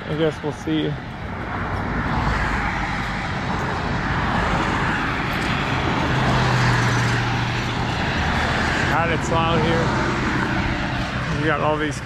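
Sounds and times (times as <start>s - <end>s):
cars driving past: 0.0s - 12.0s
low engine hum: 0.0s - 12.0s.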